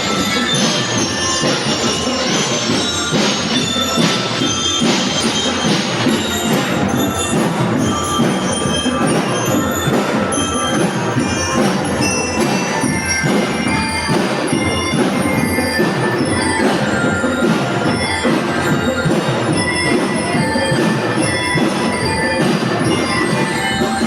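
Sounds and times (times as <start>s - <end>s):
bell-like mallet notes: 0.0s - 24.0s
parade band music: 0.0s - 24.0s
percussion: 0.0s - 24.0s.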